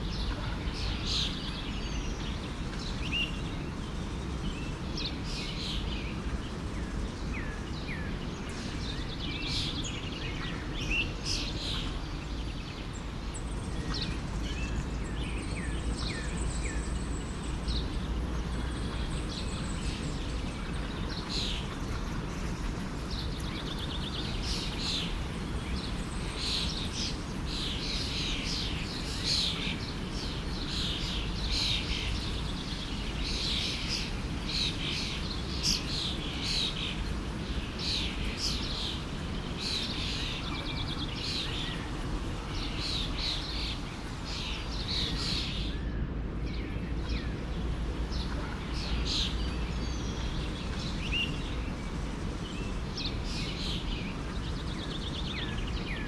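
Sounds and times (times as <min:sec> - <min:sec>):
forest stream flowing: 0:00.0 - 0:45.7, 0:46.3 - 0:56.0
songbirds chirping: 0:00.0 - 0:56.0.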